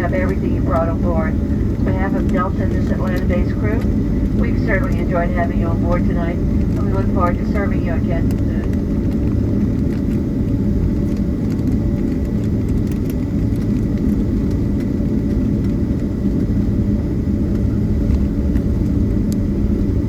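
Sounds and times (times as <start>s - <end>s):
aircraft cabin rumble: 0.0s - 20.0s
faint steady whine: 0.0s - 20.0s.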